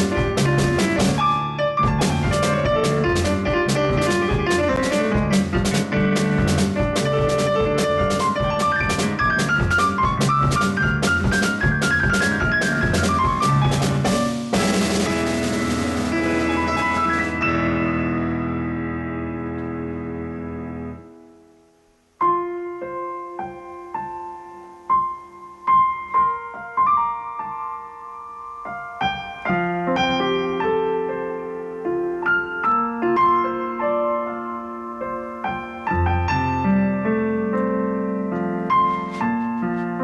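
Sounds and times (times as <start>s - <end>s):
piano piece: 0.0s - 40.0s.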